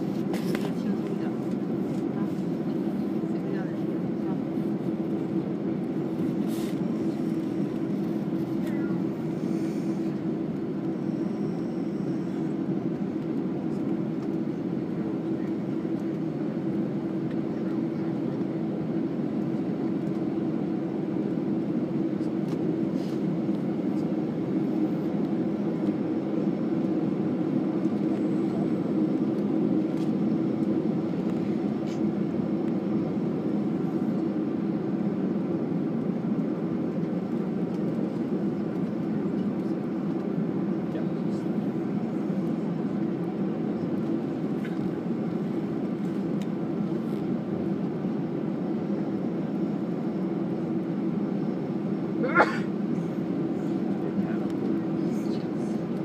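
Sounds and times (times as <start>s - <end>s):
airplane cabin rush and hum: 0.0s - 56.0s.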